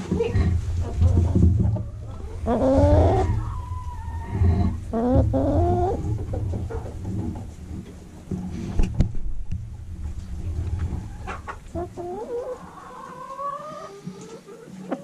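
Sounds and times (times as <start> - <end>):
hen clucking: 0.0 - 8.2, 10.3 - 15.0.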